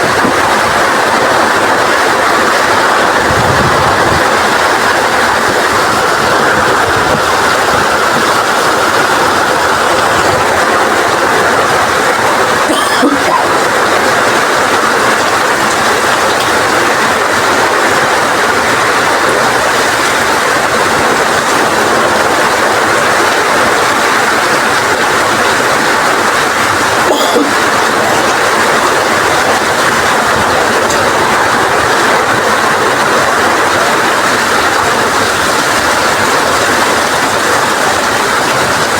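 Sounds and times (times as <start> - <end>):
heavy rain in strong wind: 0.0 - 38.9.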